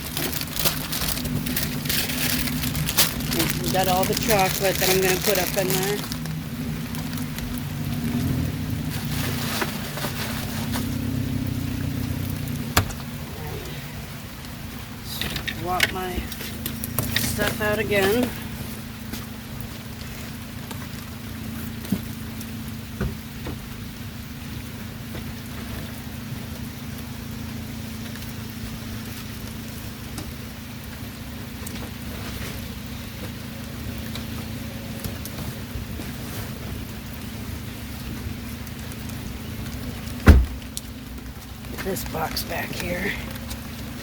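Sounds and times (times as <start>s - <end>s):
car engine idling: 0.0s - 44.0s
light rain falling: 0.0s - 44.0s.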